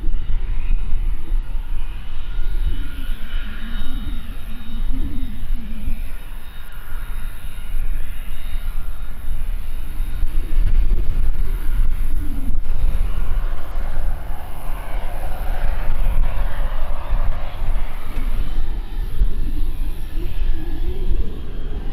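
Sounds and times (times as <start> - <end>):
jet engines rumbling and whining: 0.0 - 21.9.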